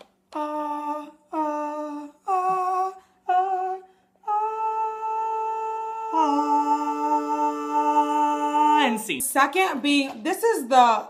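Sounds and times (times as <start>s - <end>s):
lower harmony voice: 0.0s - 9.2s
women singing a cappella: 0.0s - 9.2s.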